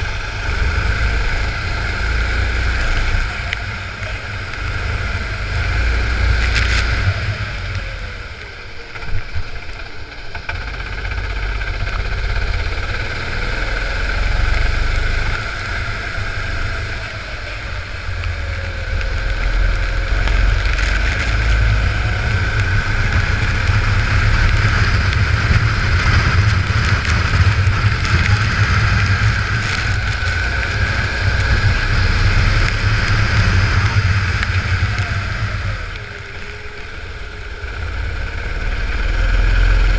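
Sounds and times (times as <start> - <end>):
kart engine revving: 0.0 - 8.4, 9.0 - 39.9
wind rumble on microphone: 0.0 - 39.9.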